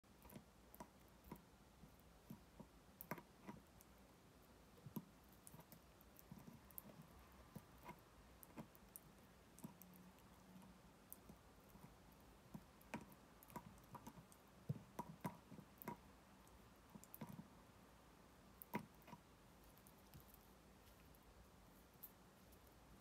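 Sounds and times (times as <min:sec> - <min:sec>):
faint clicks and taps: 0:00.1 - 0:04.0, 0:04.7 - 0:17.6, 0:18.6 - 0:23.0.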